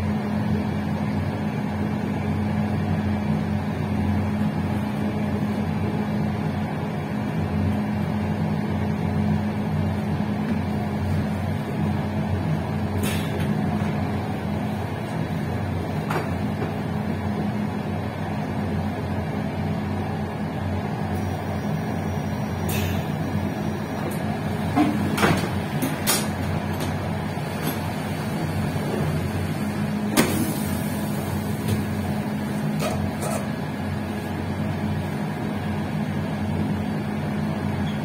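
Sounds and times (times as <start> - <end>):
train rumbling on rails: 0.0 - 38.0.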